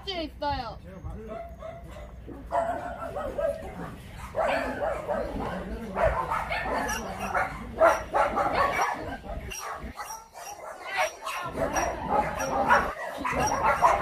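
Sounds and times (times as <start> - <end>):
dogs barking and yipping: 1.0 - 14.0.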